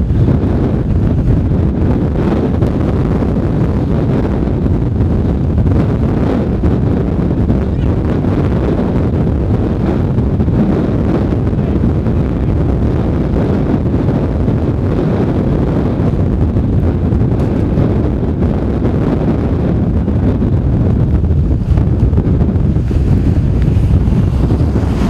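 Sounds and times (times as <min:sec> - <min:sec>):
strong wind on microphone: 0:00.0 - 0:25.0.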